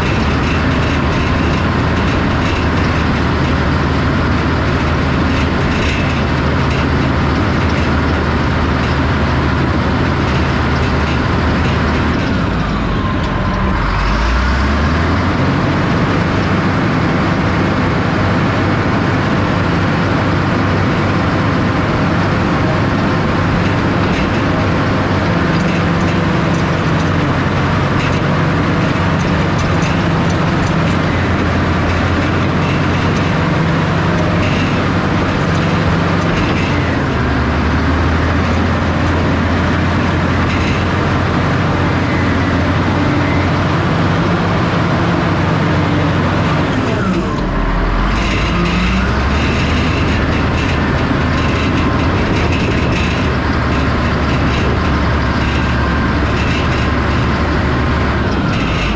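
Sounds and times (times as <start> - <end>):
diesel bulldozer engine under load: 0.0 - 58.9.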